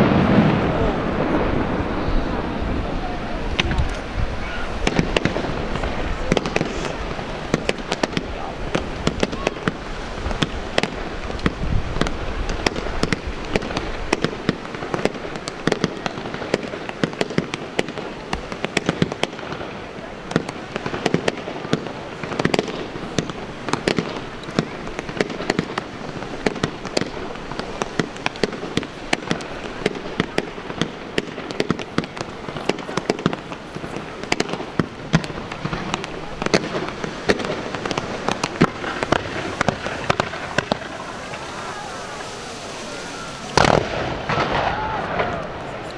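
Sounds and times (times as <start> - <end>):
deep firework booms: 0.0 - 45.9
fireworks bangs and crackles: 0.0 - 45.9.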